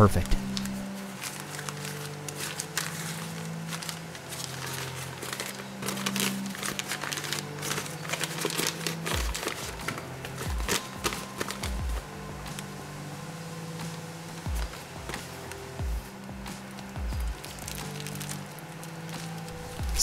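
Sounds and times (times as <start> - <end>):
background music with low notes: 0.0 - 20.0
newspaper crinkling and crumpling: 0.2 - 20.0.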